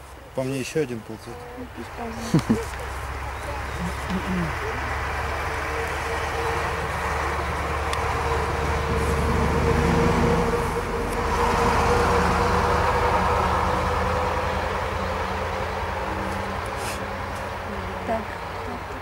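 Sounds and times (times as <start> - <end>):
vehicles passing on road: 0.0 - 19.0.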